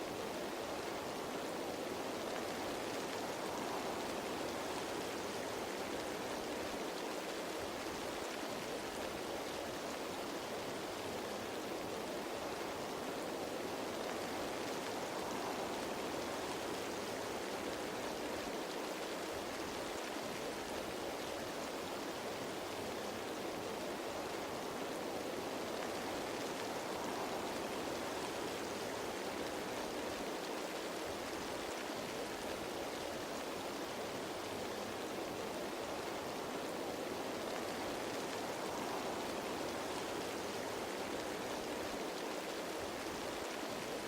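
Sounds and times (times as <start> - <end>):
rain falling on leaves: 0.0 - 44.0.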